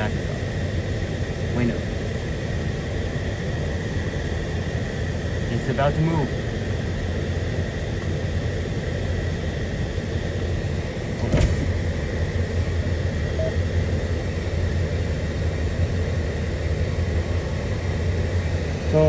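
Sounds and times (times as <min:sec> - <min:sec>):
diesel locomotive idling: 0:00.0 - 0:19.0.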